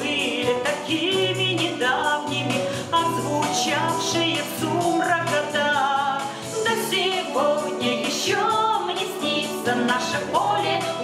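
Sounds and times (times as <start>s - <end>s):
voices singing: 0.0s - 11.0s.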